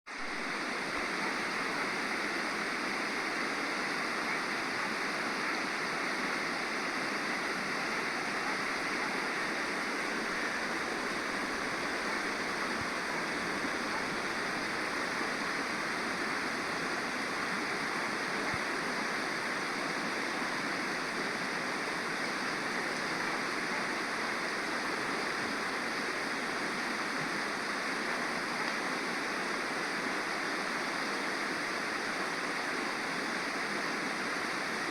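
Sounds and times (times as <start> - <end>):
stream water over rocks: 0.1 - 34.9.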